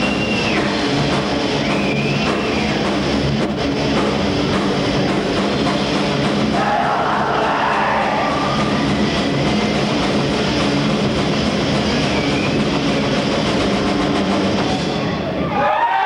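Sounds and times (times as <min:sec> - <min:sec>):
bass guitar: 0:00.0 - 0:15.8
distorted guitars: 0:00.0 - 0:16.0
drums: 0:00.0 - 0:16.0.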